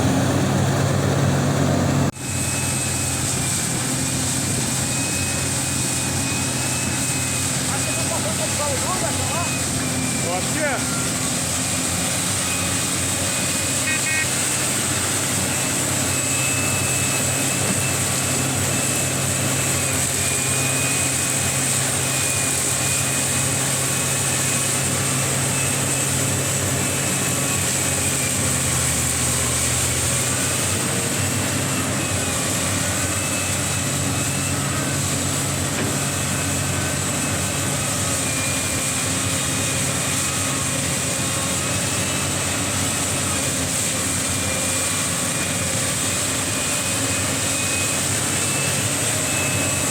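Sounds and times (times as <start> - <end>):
excavator diesel engine running: 0.0 - 49.9
high-pitched whine: 1.9 - 49.9.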